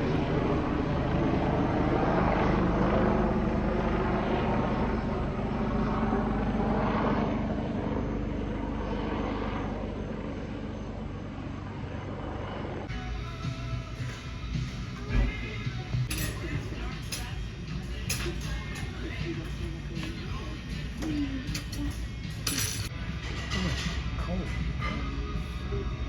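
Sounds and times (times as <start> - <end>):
aircraft flying past: 0.0 - 26.0.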